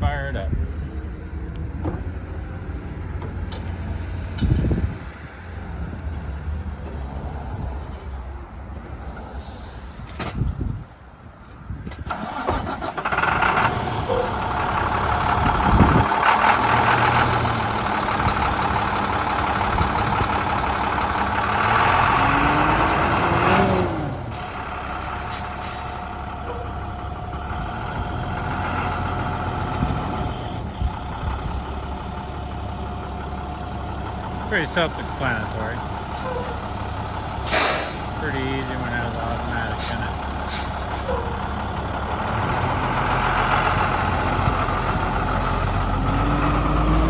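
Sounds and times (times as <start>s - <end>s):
diesel engine idling: 8.8s - 47.0s
diesel truck engine starting: 8.8s - 47.0s.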